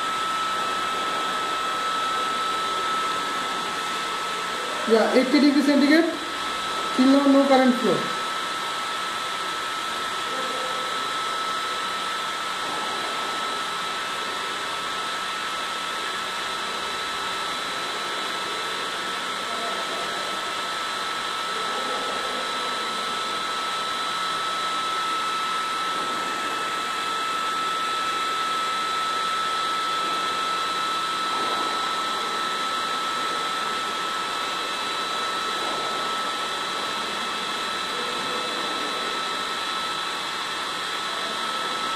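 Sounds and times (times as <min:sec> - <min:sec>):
fan motor whirring with whine: 0:00.0 - 0:41.9.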